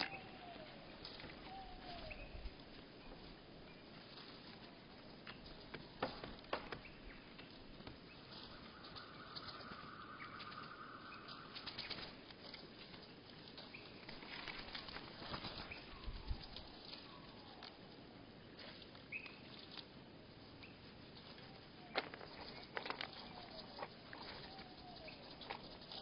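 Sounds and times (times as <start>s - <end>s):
birds clicking and tapping: 0.0s - 18.0s, 18.8s - 26.0s.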